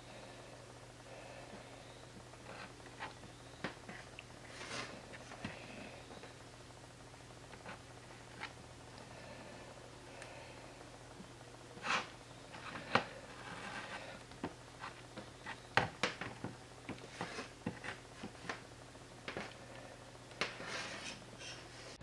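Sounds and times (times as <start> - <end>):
faint low steady hum: 0.0 - 22.0.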